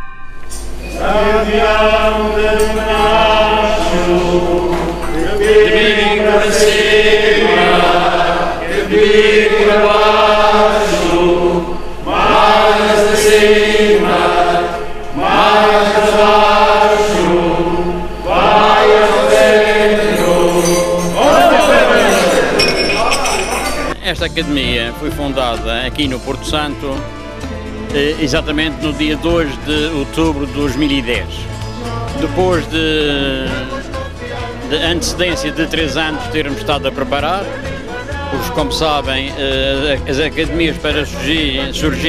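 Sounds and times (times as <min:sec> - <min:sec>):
group of people singing: 0:00.8 - 0:24.0, 0:30.6 - 0:42.0.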